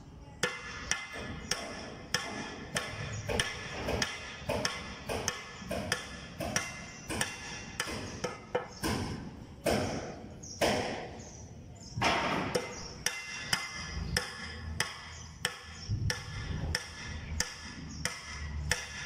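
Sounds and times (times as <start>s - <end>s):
hammer blows ringing on metal: 0.4s - 11.2s, 12.0s - 19.0s.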